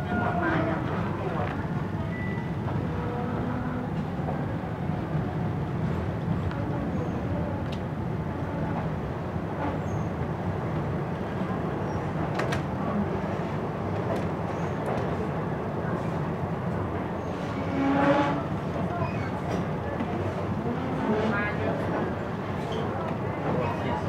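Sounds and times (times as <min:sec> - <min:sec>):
train carriage rumble and rattle: 0:00.0 - 0:24.0.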